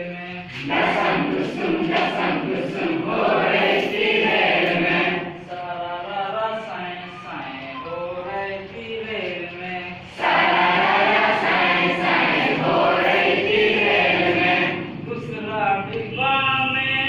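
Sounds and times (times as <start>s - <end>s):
group singing unaccompanied: 0.0s - 7.9s, 8.7s - 16.7s.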